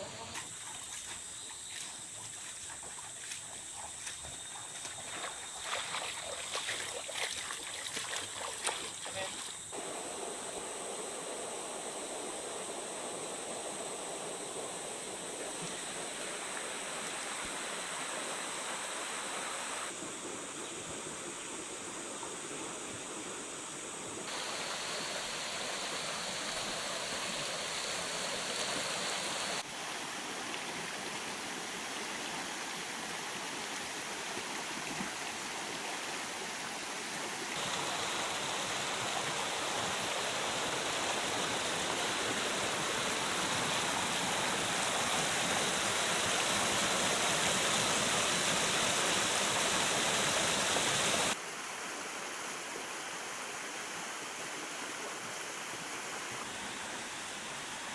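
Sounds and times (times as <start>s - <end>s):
stream rushing over rocks: 4.2s - 20.1s, 24.3s - 57.9s.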